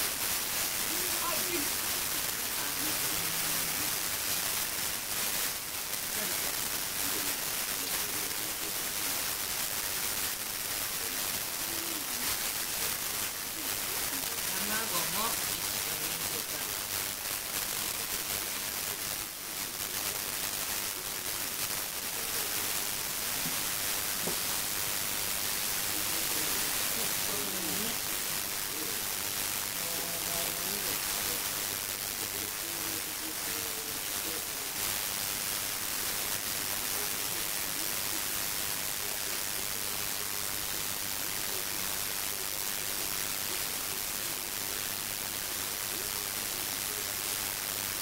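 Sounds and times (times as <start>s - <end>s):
faint voice-like sounds: 0.0s - 48.0s
steady hiss: 0.0s - 48.0s.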